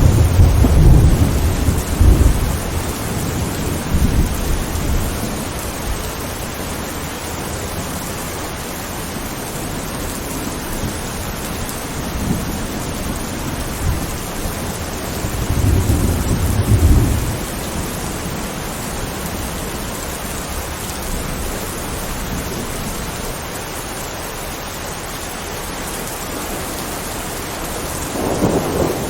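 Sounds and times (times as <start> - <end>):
thunder rumbling: 0.0 - 23.5, 25.8 - 29.0
steady rain: 0.0 - 29.0.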